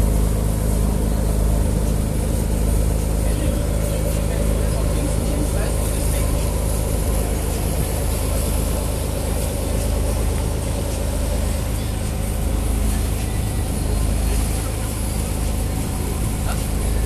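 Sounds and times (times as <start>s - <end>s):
boat engine humming: 0.0s - 17.0s
water rushing along hull: 0.0s - 17.0s.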